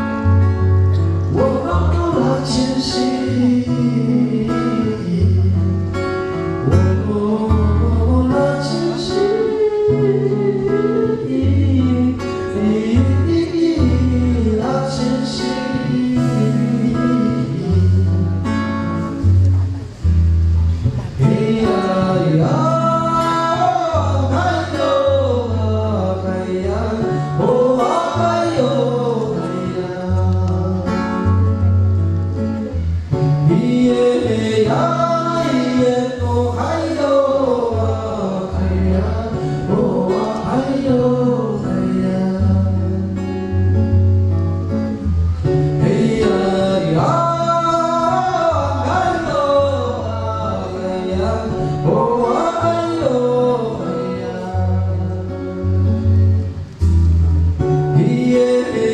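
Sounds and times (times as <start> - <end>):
person singing: 0.0 - 20.0, 20.8 - 43.8, 45.4 - 56.9, 57.8 - 58.9
bass line: 0.0 - 58.9
guitar: 0.0 - 58.9.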